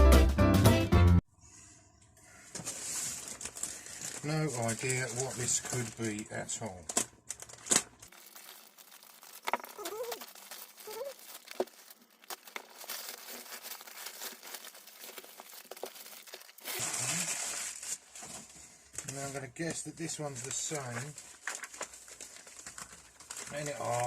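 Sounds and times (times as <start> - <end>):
packaging crinkling and rustling: 2.5 - 24.0.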